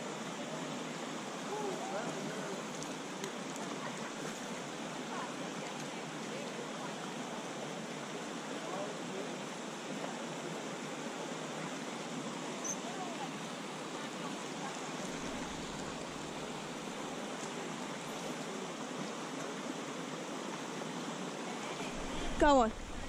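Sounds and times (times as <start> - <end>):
creek water running over rocks: 0.0 - 23.0.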